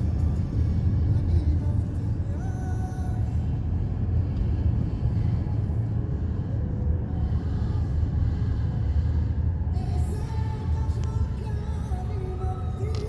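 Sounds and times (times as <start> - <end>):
moving vehicle low rumble: 0.0 - 13.0.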